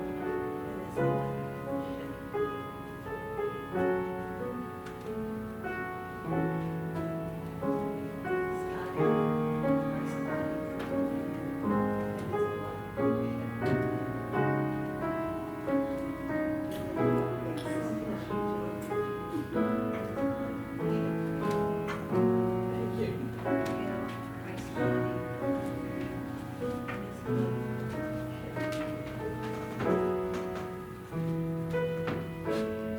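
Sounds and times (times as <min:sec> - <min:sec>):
keyboard chords: 0:00.0 - 0:32.9.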